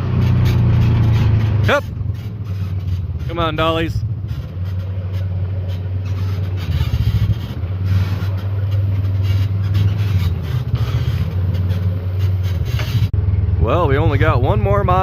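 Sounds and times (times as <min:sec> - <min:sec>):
rough rattling noise: 0:00.0 - 0:13.2
vehicle engine running at low speed: 0:00.0 - 0:15.0.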